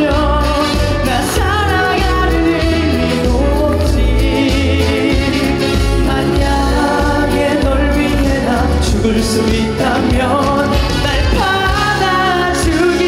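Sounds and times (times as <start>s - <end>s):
band accompaniment with bass: 0.0s - 13.0s
man singing with vibrato: 0.0s - 13.0s.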